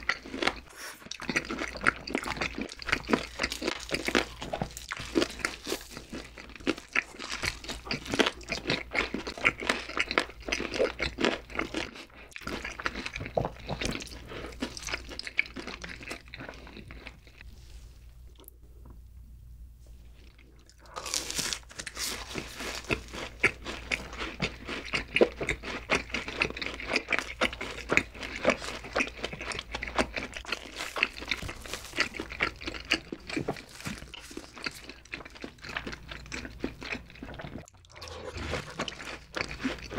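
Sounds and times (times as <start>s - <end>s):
crunching and chewing food: 0.0s - 19.1s, 19.9s - 39.9s.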